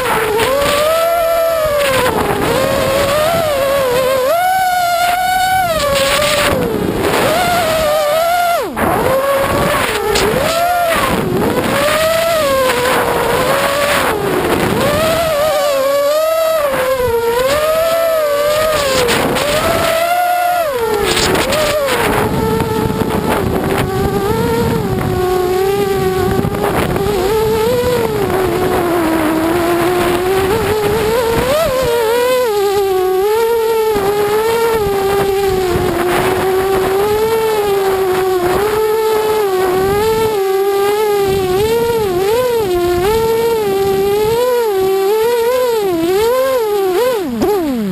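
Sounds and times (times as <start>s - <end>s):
quadcopter motors whining: 0.0s - 47.9s.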